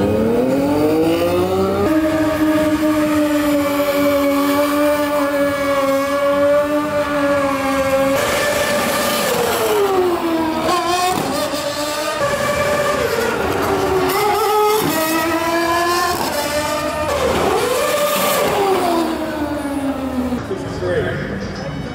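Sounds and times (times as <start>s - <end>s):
motorcycle engine revving: 0.0s - 20.4s.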